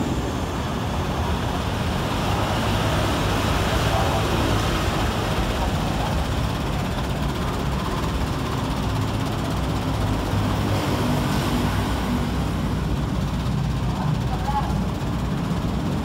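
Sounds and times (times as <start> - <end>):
bus diesel engine idling: 0.0 - 16.0
road traffic passing: 0.0 - 16.0.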